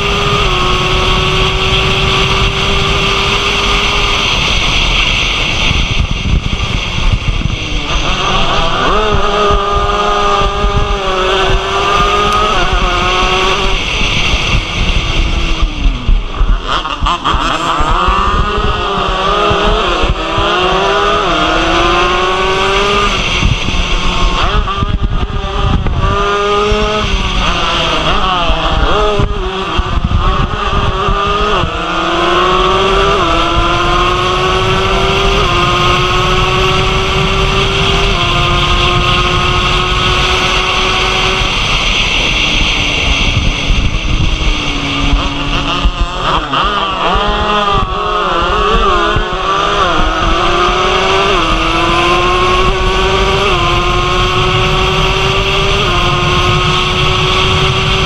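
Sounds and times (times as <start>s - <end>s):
motorcycle engine at full throttle: 0.0s - 58.0s
wind rush on microphone: 0.0s - 58.0s.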